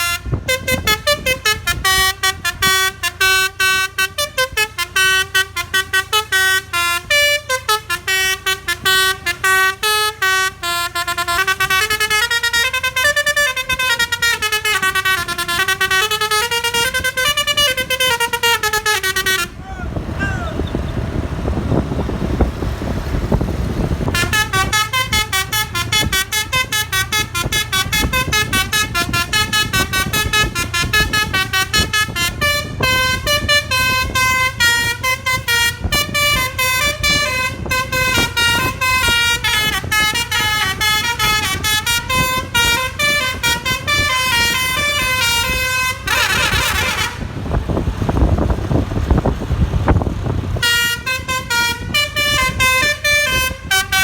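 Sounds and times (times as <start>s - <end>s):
bus musical horn tune: 0.0s - 20.8s, 21.5s - 48.5s, 49.8s - 54.0s
engine rumble: 0.0s - 54.0s
traffic rumble: 0.0s - 54.0s.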